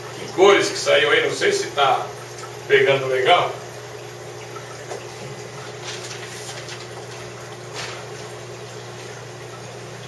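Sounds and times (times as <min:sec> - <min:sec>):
pump motor hum: 0:00.0 - 0:10.0.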